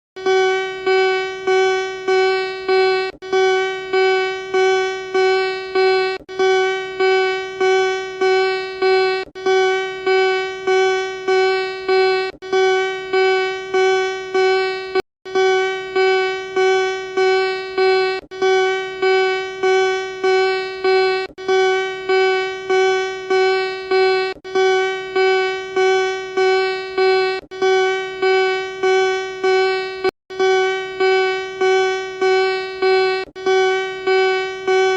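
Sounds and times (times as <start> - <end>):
electronic alarm tone beeping: 0.2 - 34.9.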